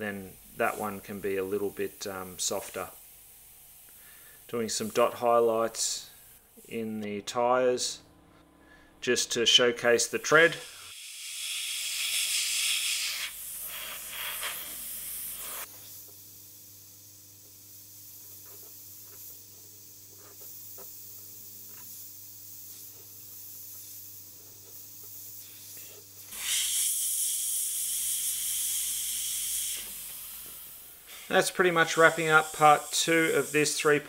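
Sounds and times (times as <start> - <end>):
airbrush hissing: 0.0 - 6.9, 9.8 - 34.0.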